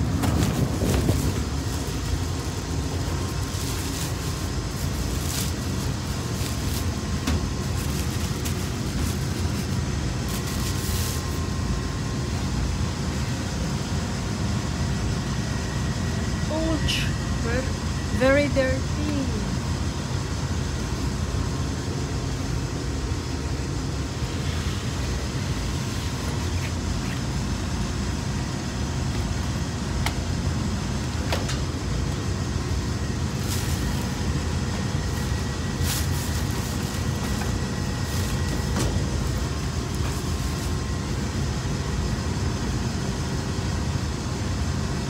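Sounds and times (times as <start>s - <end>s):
ventilation fan humming: 0.0s - 45.0s.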